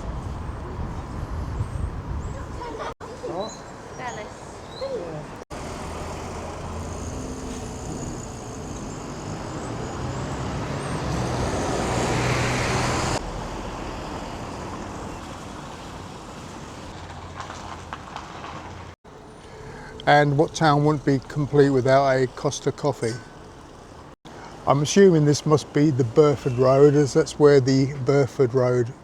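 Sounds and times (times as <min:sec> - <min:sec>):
motor vehicle passing: 0:00.0 - 0:28.2.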